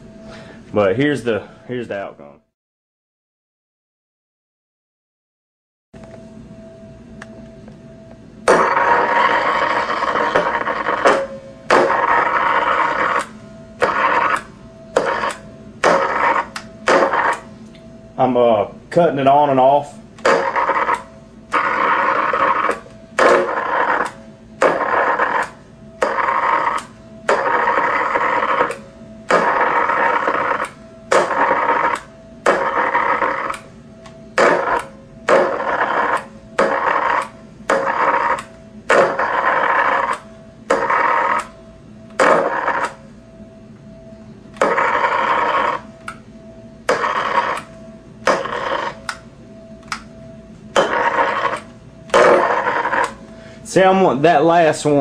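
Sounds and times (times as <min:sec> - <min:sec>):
transformer buzzing with arcing: 0:08.4 - 0:55.0.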